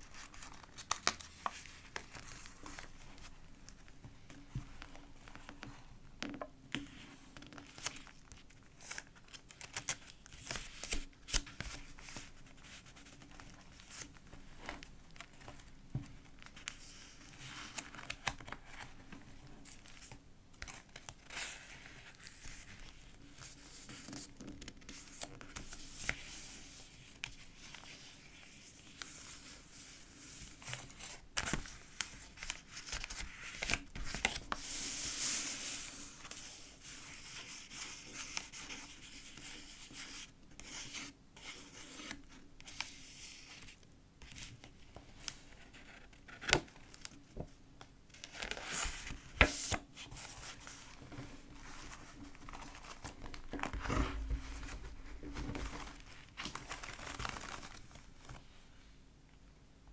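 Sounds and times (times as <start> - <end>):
paper pages rustling and crinkling: 0.0 - 58.6.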